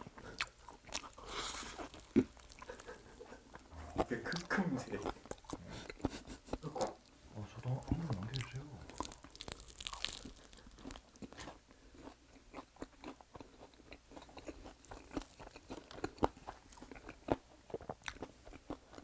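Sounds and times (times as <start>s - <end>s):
person chewing crunchy fried chicken: 0.0s - 6.8s, 7.8s - 19.0s.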